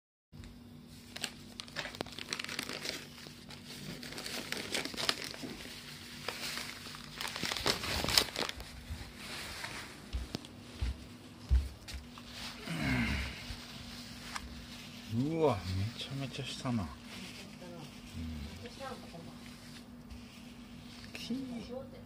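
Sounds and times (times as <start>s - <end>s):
paper and plastic rustling: 0.9s - 11.0s, 11.8s - 12.6s, 13.4s - 21.8s.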